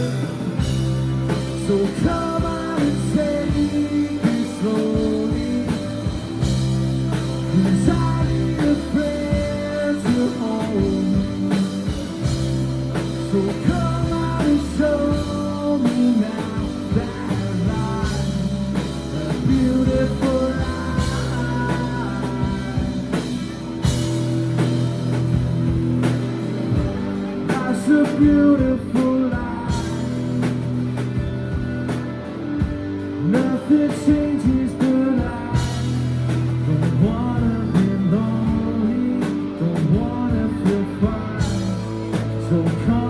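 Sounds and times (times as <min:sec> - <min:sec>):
electric guitar melodic lines: 0:00.0 - 0:43.0
live rock band: 0:00.0 - 0:43.0.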